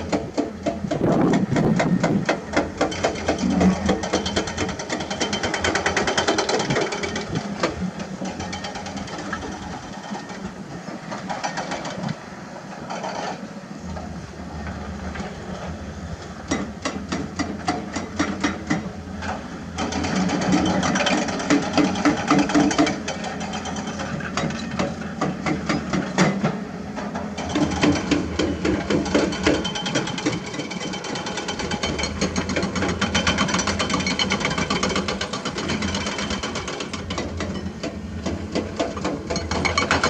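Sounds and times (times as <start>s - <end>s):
excavator diesel engine: 0.0s - 40.0s.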